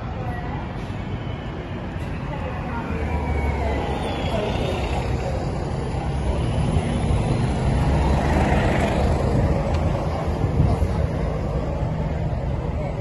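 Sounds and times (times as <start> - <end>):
buses driving past: 0.0 - 13.0.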